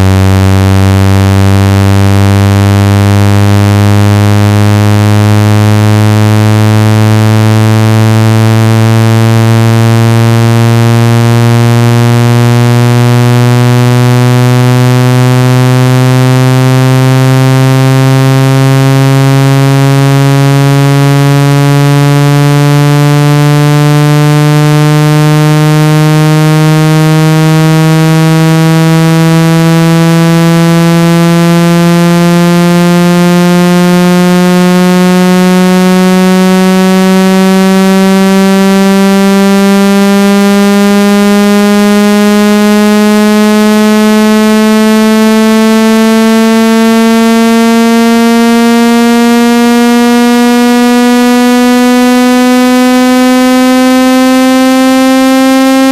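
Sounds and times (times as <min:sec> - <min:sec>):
buzzy synthesized tone rising: 0:00.0 - 0:55.9.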